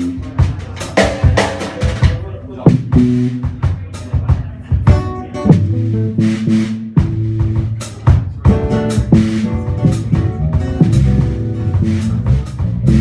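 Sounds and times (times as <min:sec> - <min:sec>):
bass guitar: 0:00.0 - 0:13.0
drum kit with cymbal crashes: 0:00.0 - 0:13.0.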